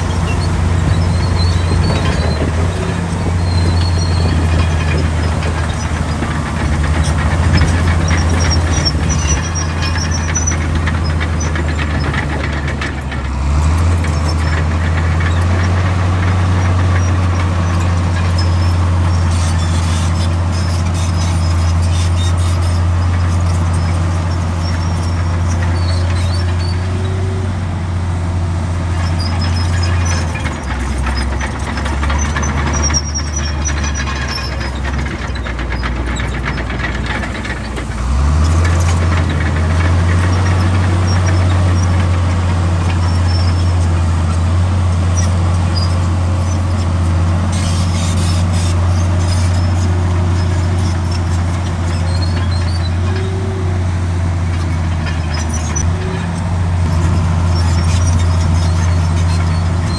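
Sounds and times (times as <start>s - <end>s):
short high squeals: 0.0s - 12.2s, 16.5s - 27.4s, 28.9s - 59.9s
heavy diesel machinery droning: 0.0s - 59.9s.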